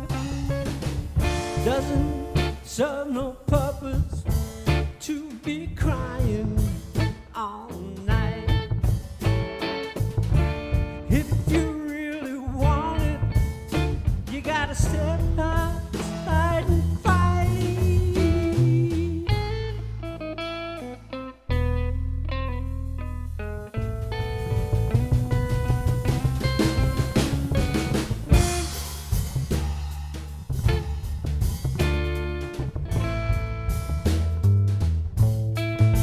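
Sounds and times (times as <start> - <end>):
electric guitar lead: 0.0 - 2.8, 4.0 - 5.1, 5.9 - 29.3, 30.6 - 36.0
drums: 0.0 - 21.9, 22.7 - 36.0
upright double bass: 0.0 - 36.0.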